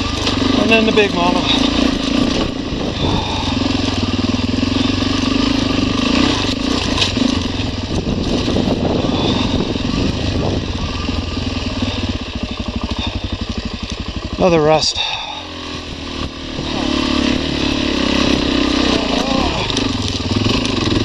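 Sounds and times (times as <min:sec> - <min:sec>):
dirt motorcycle engine: 0:00.0 - 0:21.0.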